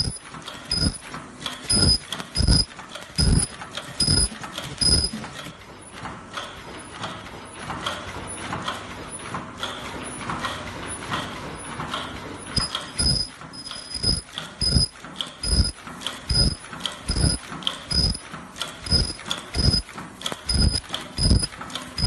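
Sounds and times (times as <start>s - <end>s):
mask-making machine thumping: 0.0s - 22.0s
production line clatter: 0.0s - 22.0s.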